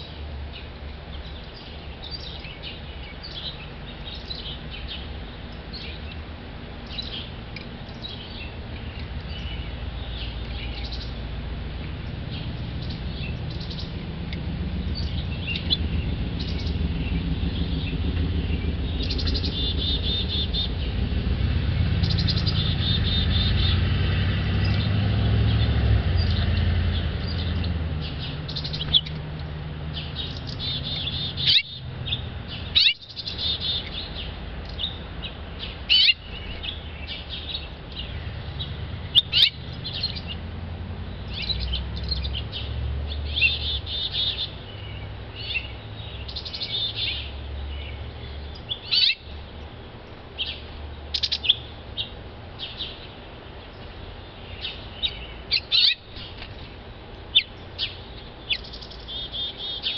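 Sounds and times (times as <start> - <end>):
songbirds chirping: 0.0 - 59.9
steady low rumble: 2.3 - 59.1.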